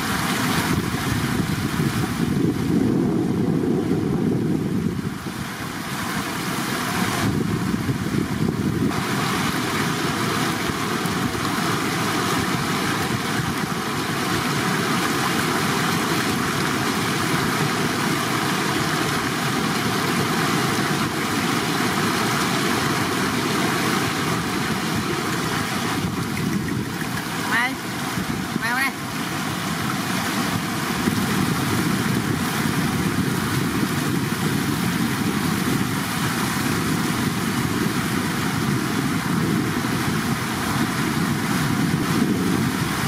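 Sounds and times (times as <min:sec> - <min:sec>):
water rushing over paved crossing: 0:00.0 - 0:43.0.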